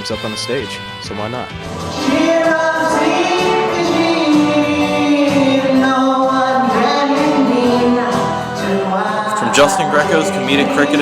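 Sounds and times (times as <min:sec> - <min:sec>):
musical accompaniment: 0:00.0 - 0:11.0
person singing long notes: 0:01.9 - 0:11.0.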